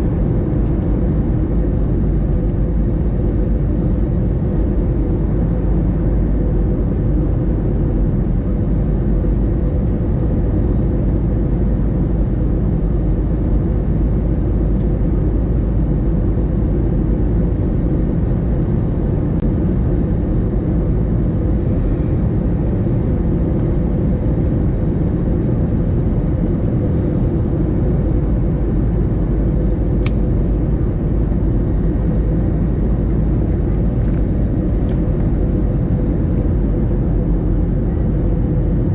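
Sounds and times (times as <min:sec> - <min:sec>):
airplane cabin engine roar: 0:00.0 - 0:38.9
faint constant hum: 0:00.0 - 0:38.9.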